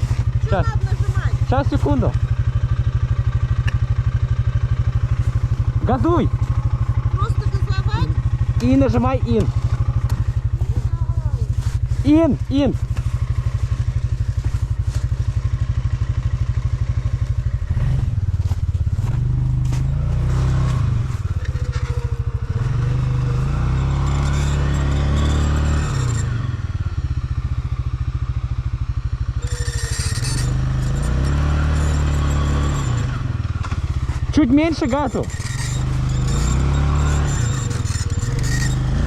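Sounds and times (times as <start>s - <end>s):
quad engine revving: 0.0s - 13.8s, 17.6s - 27.1s, 29.3s - 39.0s.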